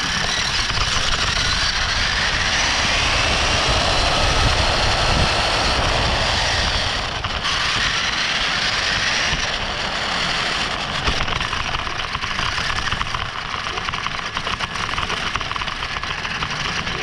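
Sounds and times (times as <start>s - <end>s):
rc car motor whining: 0.0s - 17.0s
tyres rumbling on pavement: 0.0s - 17.0s.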